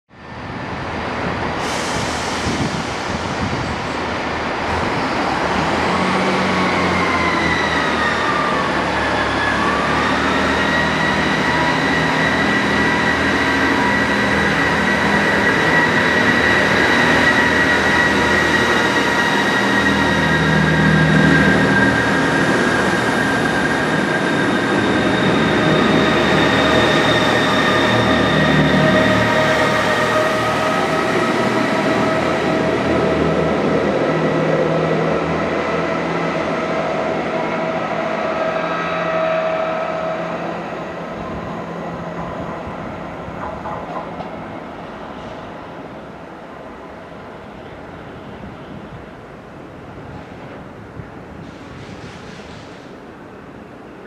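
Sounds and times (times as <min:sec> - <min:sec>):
diesel train running: 0:00.3 - 0:54.0.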